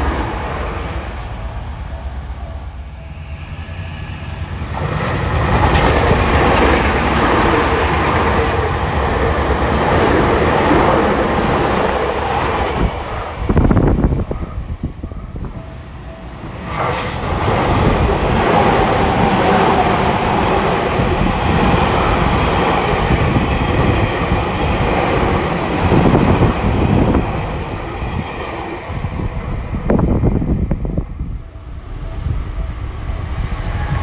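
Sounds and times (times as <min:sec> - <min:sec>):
high train whine: 0:00.0 - 0:34.0.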